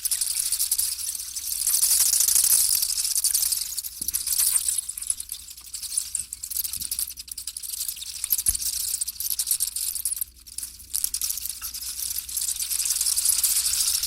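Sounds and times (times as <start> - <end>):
high-pitched crackling and hissing: 0.0 - 14.0.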